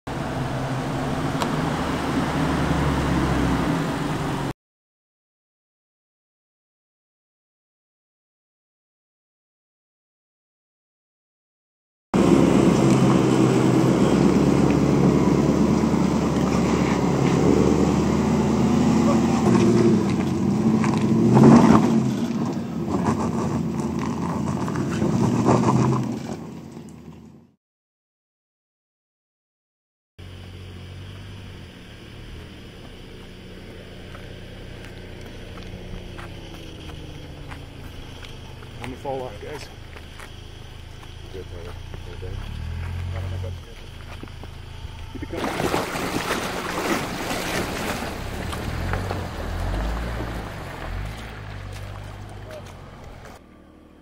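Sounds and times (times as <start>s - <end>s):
engine running at low revs: 0.1s - 4.5s, 12.2s - 27.3s, 30.2s - 54.0s.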